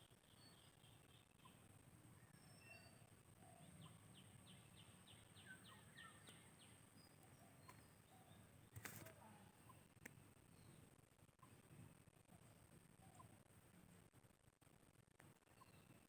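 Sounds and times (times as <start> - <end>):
distant birds chirping: 0.1 - 13.5, 15.3 - 16.0.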